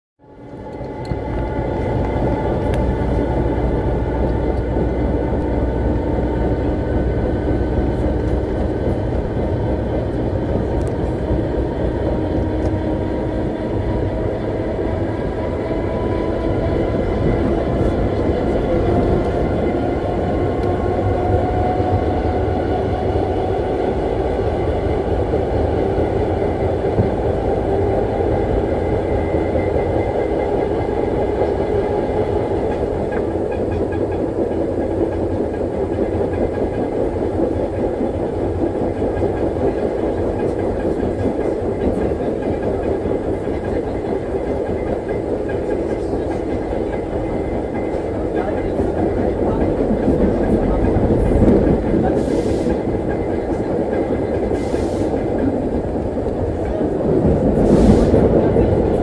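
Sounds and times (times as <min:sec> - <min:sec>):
wheels rumbling and clattering on rails: 0:00.2 - 0:59.0.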